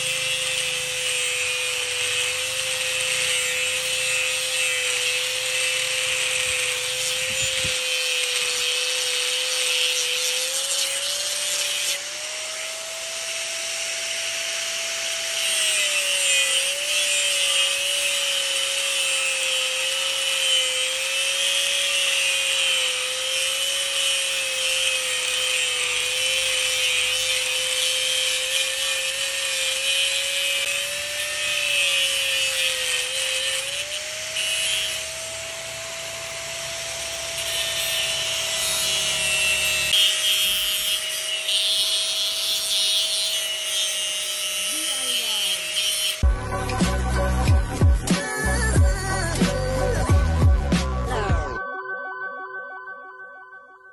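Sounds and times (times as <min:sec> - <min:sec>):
grinder grinding steel: 0:00.0 - 0:51.6.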